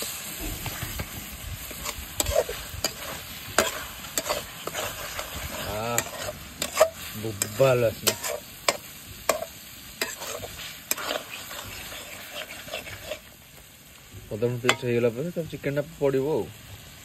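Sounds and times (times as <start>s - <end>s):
metal spatula scraping a pan: 0.0s - 13.4s, 14.7s - 15.0s
light sizzle of frying: 0.0s - 17.0s.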